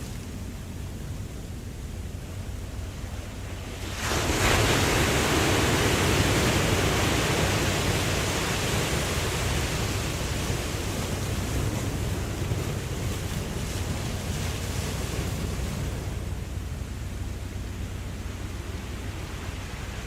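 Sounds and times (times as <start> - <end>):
low rumble of surf: 0.0 - 20.0.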